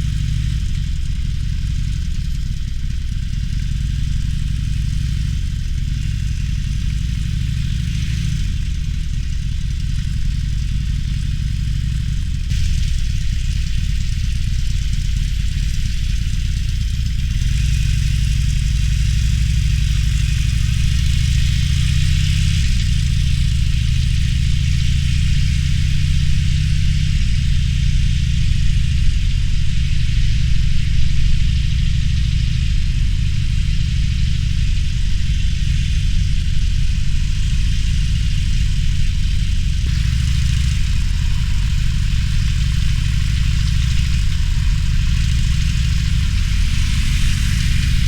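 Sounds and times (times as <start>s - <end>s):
motorcycle engine running: 0.0s - 48.0s
steady hiss: 0.0s - 48.0s
wind and road noise: 0.0s - 48.0s.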